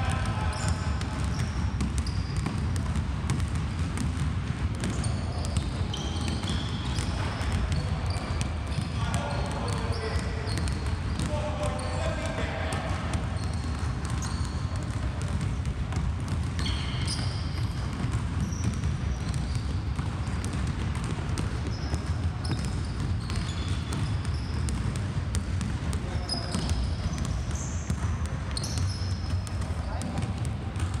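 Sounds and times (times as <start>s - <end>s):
basketballs bouncing on wooden floor: 0.0s - 31.0s
sneaker squeaks: 0.1s - 4.2s, 4.8s - 31.0s.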